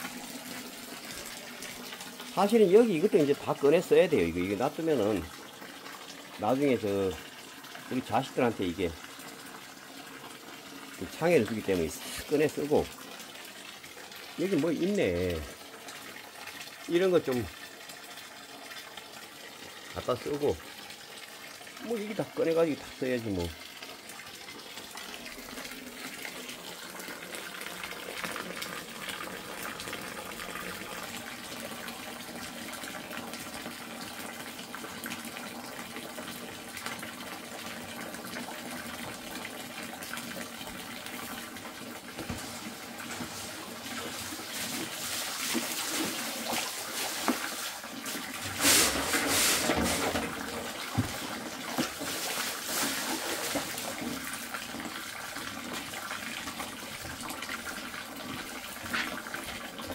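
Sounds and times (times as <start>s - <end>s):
spring water running and splashing: 0.0s - 59.9s.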